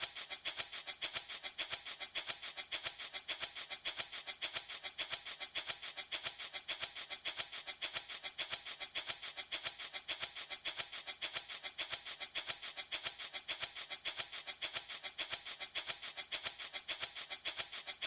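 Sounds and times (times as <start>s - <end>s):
wooden rattle shaken: 0.0s - 18.0s.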